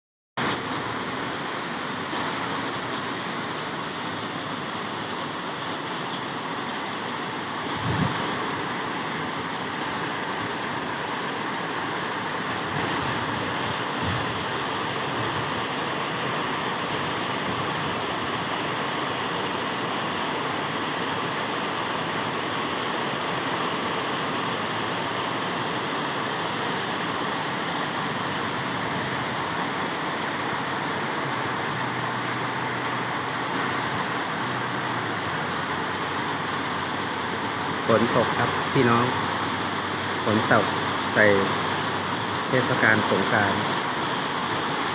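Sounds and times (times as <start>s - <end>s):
heavy rain in strong wind: 0.4s - 44.9s.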